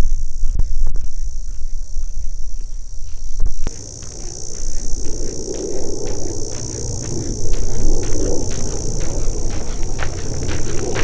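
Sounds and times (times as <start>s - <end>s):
insects chirring: 0.0s - 11.0s
low rumble: 0.0s - 11.0s.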